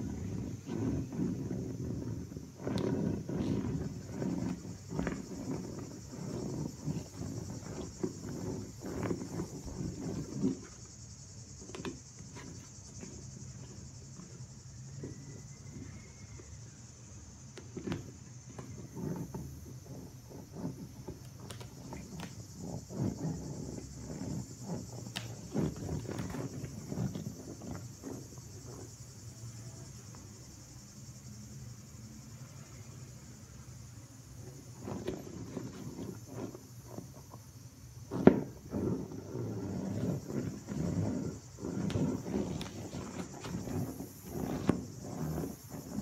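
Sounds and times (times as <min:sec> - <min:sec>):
vinyl ball creaking and rubbing: 0:00.0 - 0:31.3, 0:32.5 - 0:46.0
steady high hiss: 0:00.0 - 0:46.0.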